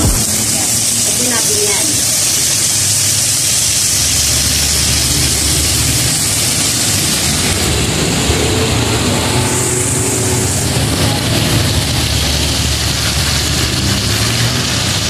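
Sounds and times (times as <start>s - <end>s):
food frying in a pan: 0.0s - 15.0s
low rumble of gas burner: 0.0s - 15.0s.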